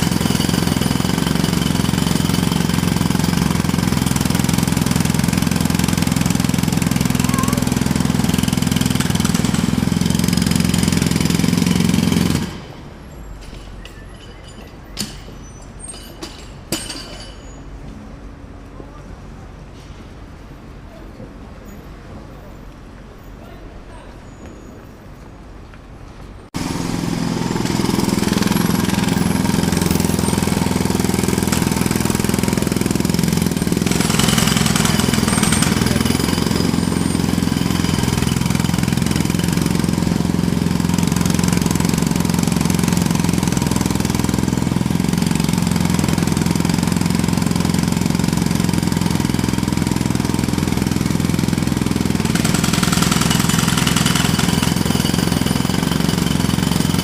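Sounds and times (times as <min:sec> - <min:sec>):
jackhammer hammering: 0:00.0 - 0:12.9, 0:14.6 - 0:17.4, 0:26.6 - 0:57.0.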